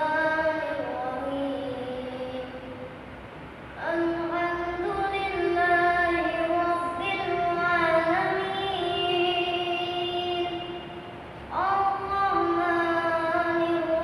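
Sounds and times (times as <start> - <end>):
boy reciting in melodic chant: 0.0 - 3.0, 3.7 - 14.0.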